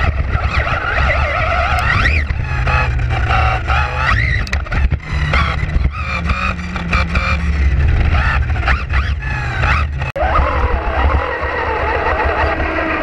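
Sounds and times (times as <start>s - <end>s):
electric motor whine: 0.0s - 13.0s
wind and tyre rumble: 0.0s - 13.0s.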